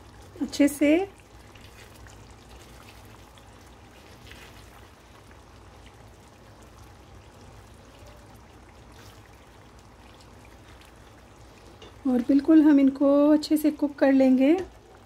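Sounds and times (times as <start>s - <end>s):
gravy bubbling and spitting: 0.0s - 13.1s.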